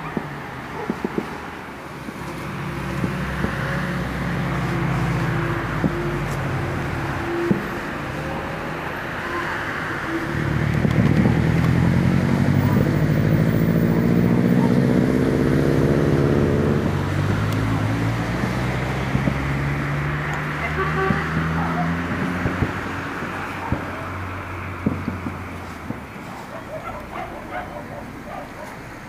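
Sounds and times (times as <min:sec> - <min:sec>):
road traffic hum: 0:00.0 - 0:29.0
vehicle engine passing: 0:00.8 - 0:29.0.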